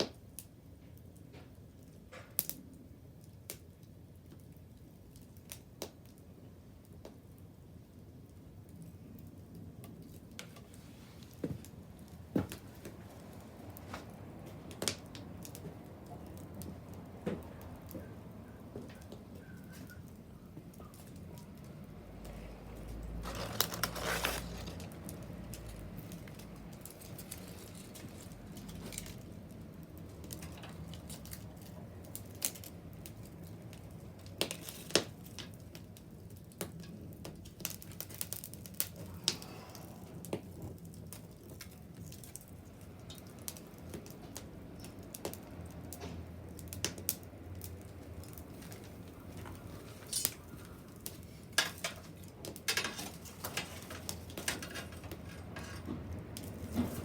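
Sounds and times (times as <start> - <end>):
bonfire crackling: 0.0 - 57.0.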